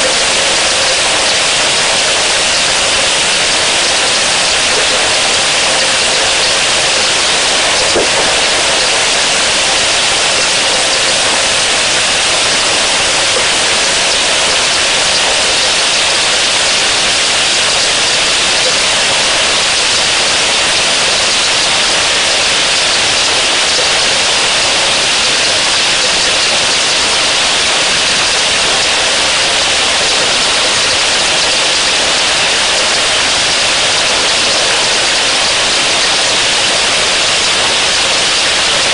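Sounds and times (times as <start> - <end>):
rain on water: 0.0 - 38.9.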